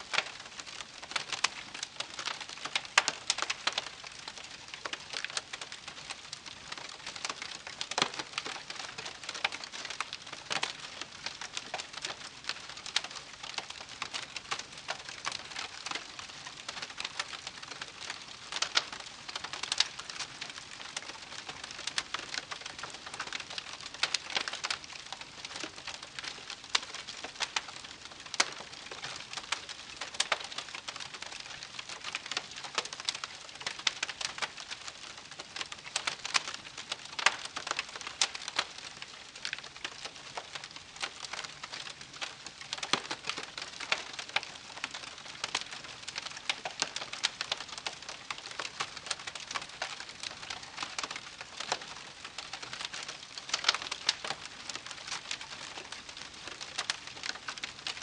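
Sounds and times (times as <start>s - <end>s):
fire popping and snapping: 0.0s - 58.0s
campfire crackling: 0.1s - 58.0s.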